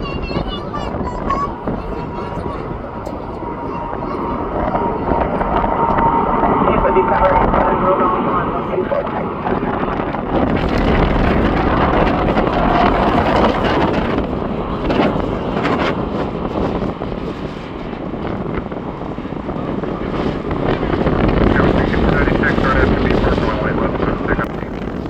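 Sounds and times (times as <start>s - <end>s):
jet engine noise: 0.0s - 25.0s
wind buffeting microphone: 0.0s - 25.0s.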